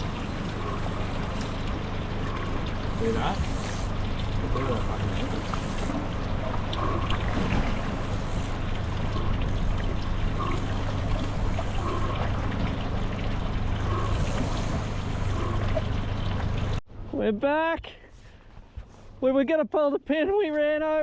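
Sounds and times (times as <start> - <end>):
boat motor humming: 0.0 - 17.0
water: 0.0 - 21.0.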